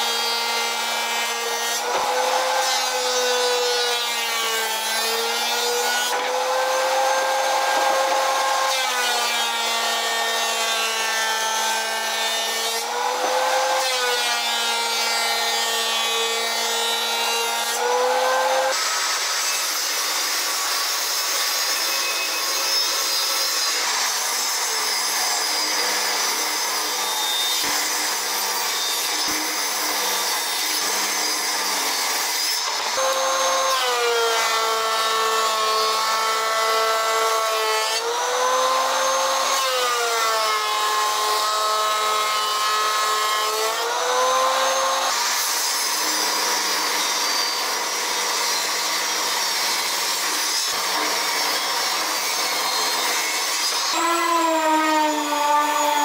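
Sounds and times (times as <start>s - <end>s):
table saw ripping a board: 0.0s - 56.0s
thickness planer motor: 0.0s - 56.0s.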